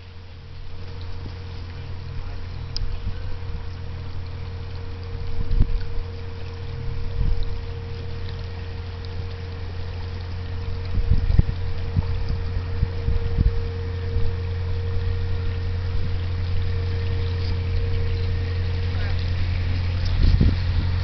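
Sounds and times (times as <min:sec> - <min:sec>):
boat engine drone: 0:00.0 - 0:21.0.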